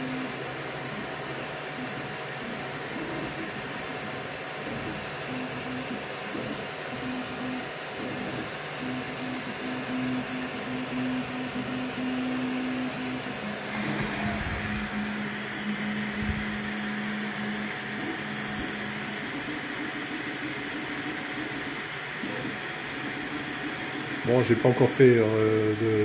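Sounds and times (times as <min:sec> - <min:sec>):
cooling fans whirring: 0:00.0 - 0:26.0
stepper motors humming: 0:04.6 - 0:26.0.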